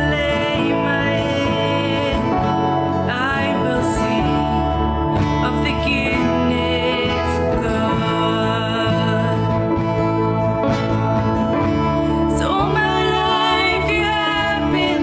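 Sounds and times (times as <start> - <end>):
woman singing: 0.0 - 10.1, 12.2 - 15.0
keyboard: 0.0 - 15.0
strummed acoustic guitar: 0.0 - 15.0.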